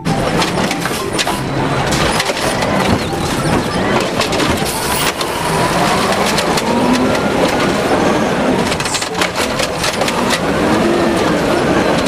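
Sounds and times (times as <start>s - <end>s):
toy truck scraping and clattering: 0.0s - 12.0s.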